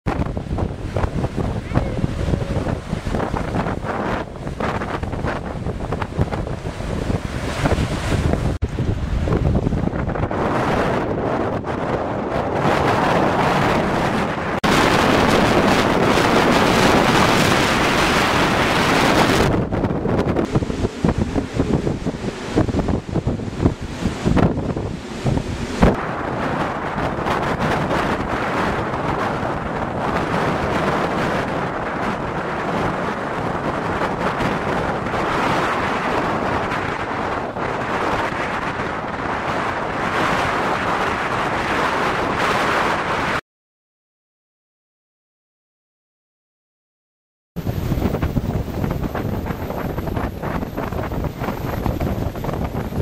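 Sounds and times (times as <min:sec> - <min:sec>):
storm waves breaking: 0:00.1 - 0:43.4, 0:47.6 - 0:53.0
strong wind buffeting microphone: 0:00.1 - 0:43.4, 0:47.6 - 0:53.0.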